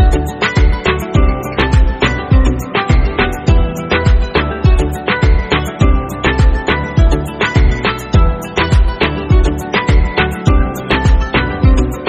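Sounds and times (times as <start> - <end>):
music with deep bass beat: 0.0 - 12.0.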